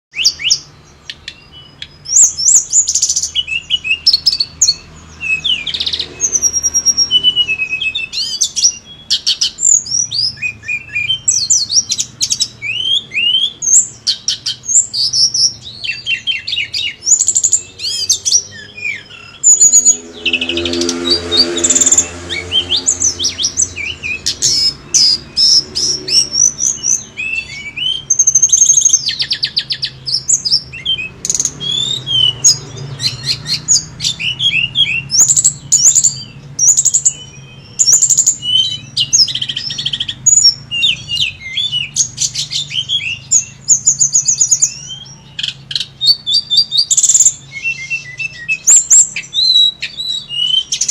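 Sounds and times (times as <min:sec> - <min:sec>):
bird singing fast trills: 0:00.1 - 0:50.9.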